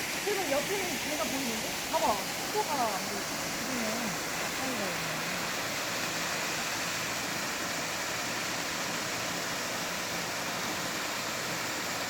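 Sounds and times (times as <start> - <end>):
water pouring down waterfall: 0.0 - 12.0.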